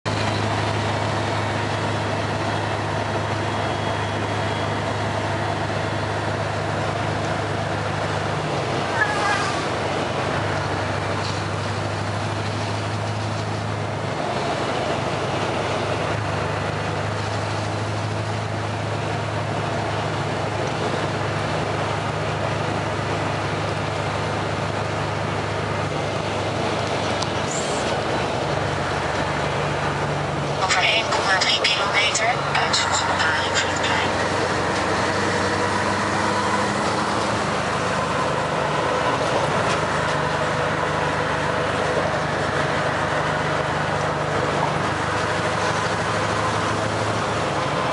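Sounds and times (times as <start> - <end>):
diesel truck engine droning: 0.0 - 47.9.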